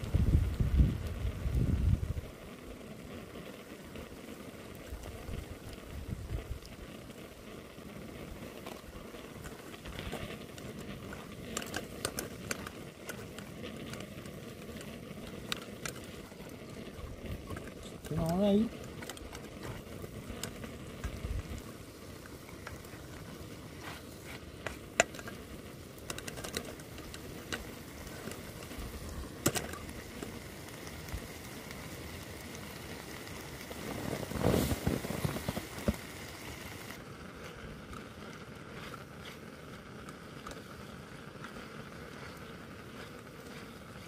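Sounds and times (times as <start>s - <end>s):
food sizzling in a pan: 0.0s - 44.0s
utensil clicks and scrapes: 2.3s - 44.0s.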